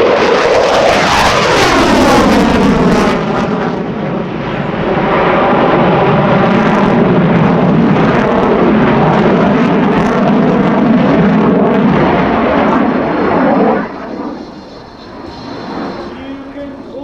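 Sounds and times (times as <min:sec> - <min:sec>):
fighter jet passing low: 0:00.0 - 0:17.0.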